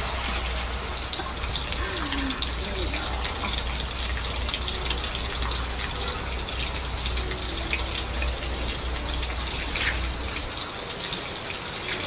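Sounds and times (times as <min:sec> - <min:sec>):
running water: 0:00.0 - 0:12.0
small splashes and drips: 0:00.0 - 0:12.0.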